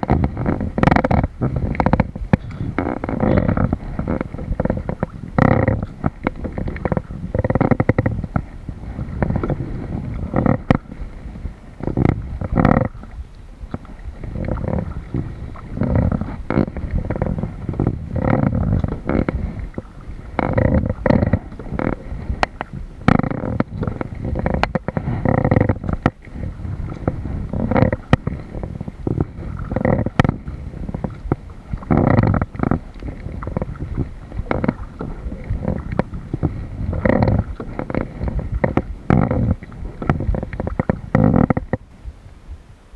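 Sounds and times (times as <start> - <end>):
paddle knock: 0.0 - 42.7
water splashing against paddle: 0.0 - 42.8.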